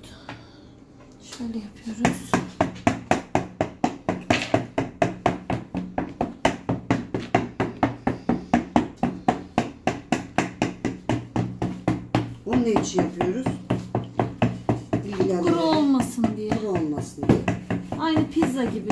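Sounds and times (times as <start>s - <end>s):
rapid knocking on kitchen surface: 1.9s - 18.9s.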